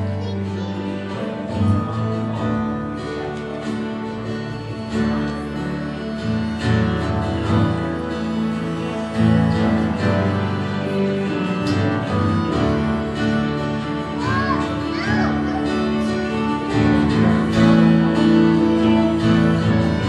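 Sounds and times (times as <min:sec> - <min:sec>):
guitars: 0:00.0 - 0:20.0
live band playing: 0:00.0 - 0:20.0.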